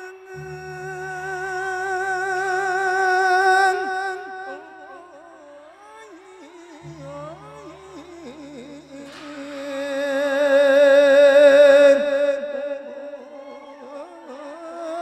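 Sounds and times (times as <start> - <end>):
man chanting with vibrato: 0.0 - 15.0.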